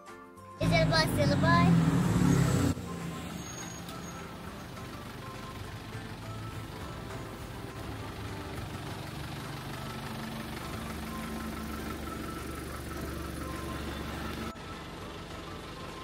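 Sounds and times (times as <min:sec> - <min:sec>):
minibus engine idling: 0:00.6 - 0:16.0.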